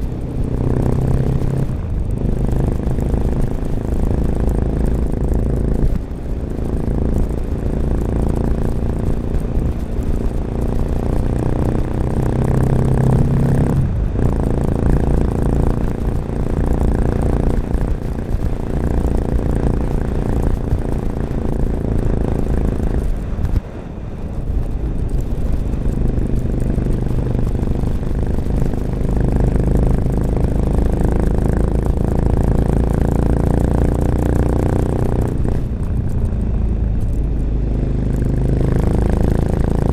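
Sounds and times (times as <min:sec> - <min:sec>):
motorcycle engine revving under load: 0:00.0 - 0:23.6, 0:24.7 - 0:39.9.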